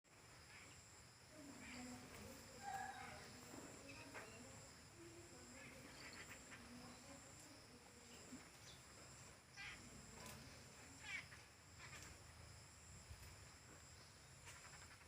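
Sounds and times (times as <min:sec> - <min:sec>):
high insect buzz: 0:00.1 - 0:15.0.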